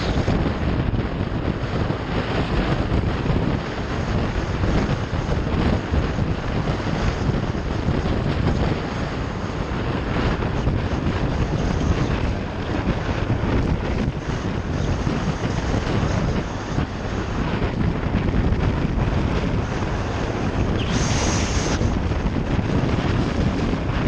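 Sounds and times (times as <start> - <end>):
motorcycle running: 0.0 - 24.0
wind rushing on microphone: 0.0 - 24.0.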